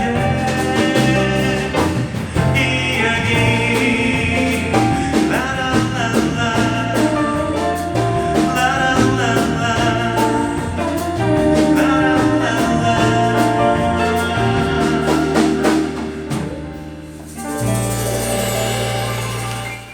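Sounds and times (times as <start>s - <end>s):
person singing: 0.0s - 16.5s
drums: 0.0s - 19.9s
guitar: 0.0s - 19.9s.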